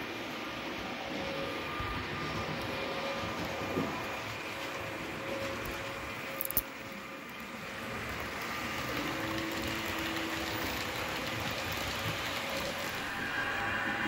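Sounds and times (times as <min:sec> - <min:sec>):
model train wheels rumbling: 0:00.0 - 0:14.0.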